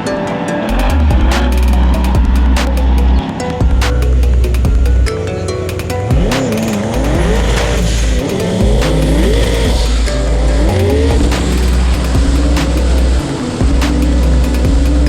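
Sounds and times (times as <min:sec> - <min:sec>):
music with heavy bass beat: 0:00.6 - 0:15.0
buggy engine revving: 0:00.7 - 0:15.0.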